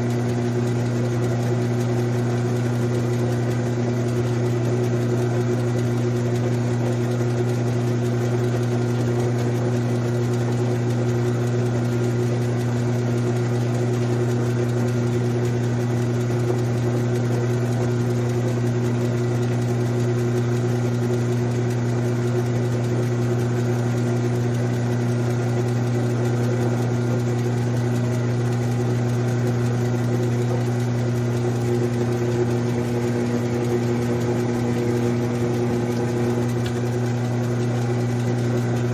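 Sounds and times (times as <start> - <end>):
metal lathe humming: 0.0 - 38.9.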